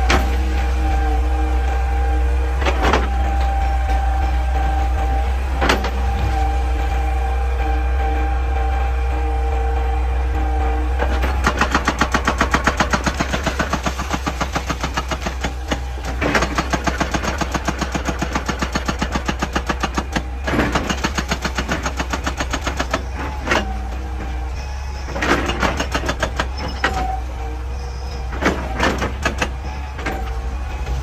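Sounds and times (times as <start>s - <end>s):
excavator engine running: 0.0s - 31.0s
hydraulic rock breaker hammering: 0.0s - 31.0s.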